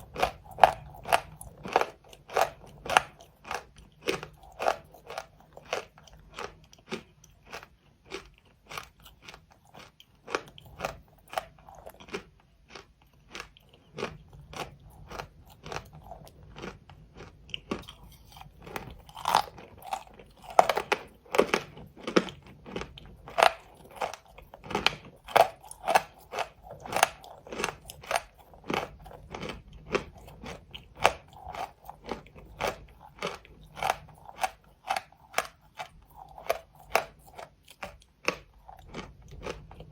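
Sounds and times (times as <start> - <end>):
crunching chewing of chalk: 0.0 - 39.9.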